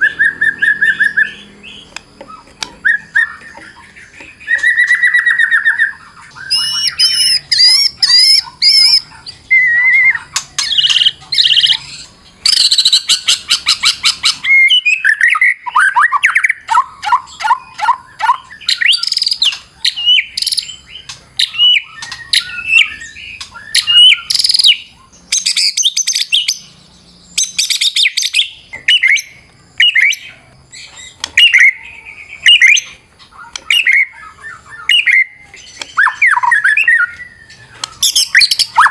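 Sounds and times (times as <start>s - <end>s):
songbird whistling and trilling: 0.0s - 38.9s.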